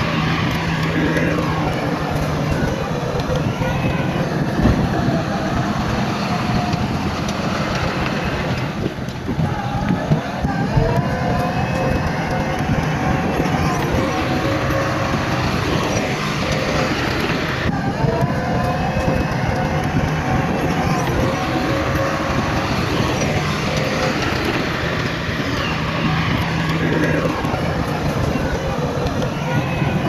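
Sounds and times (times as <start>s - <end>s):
heavy diesel machinery rumbling: 0.0s - 30.0s
held whining tones: 0.0s - 30.0s.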